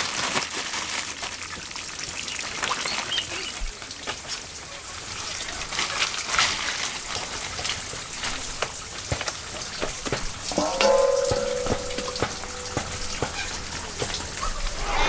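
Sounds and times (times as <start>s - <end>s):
water trickling and splashing: 0.1s - 14.8s.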